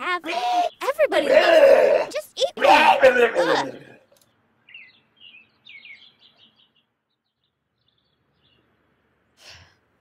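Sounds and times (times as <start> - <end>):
birds chirping: 0.0 - 9.4.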